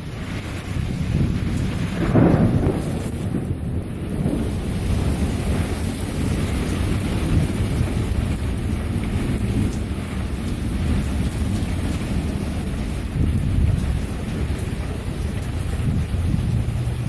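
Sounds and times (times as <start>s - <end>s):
low rumble of thunder: 0.0s - 17.0s
rain falling: 0.0s - 17.0s.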